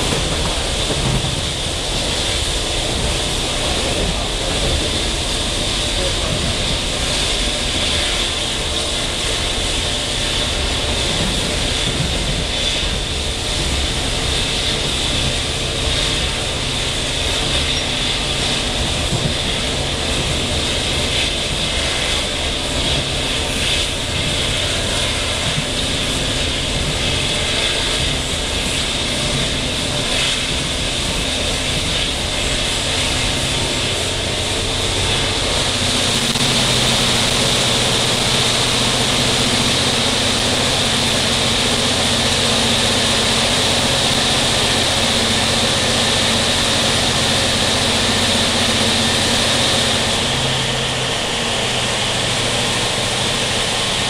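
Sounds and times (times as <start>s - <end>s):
air rushing past train: 0.0s - 54.0s
train wheels rumbling on rails: 0.0s - 54.0s.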